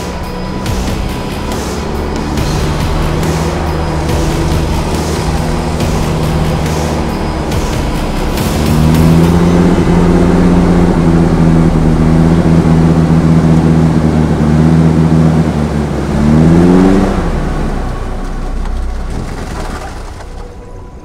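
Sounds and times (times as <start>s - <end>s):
van engine under load: 0.0s - 21.0s.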